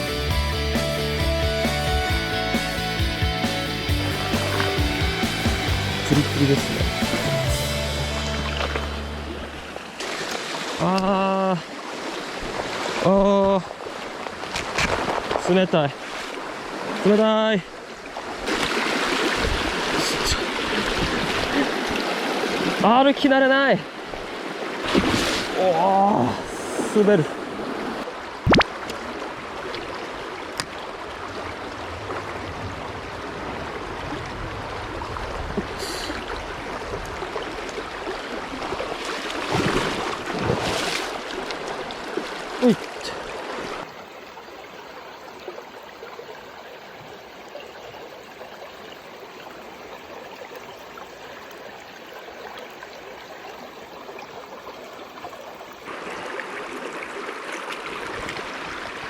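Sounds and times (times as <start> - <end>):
water splashes: 3.8 - 59.0
stream rushing over rocks: 4.0 - 59.0.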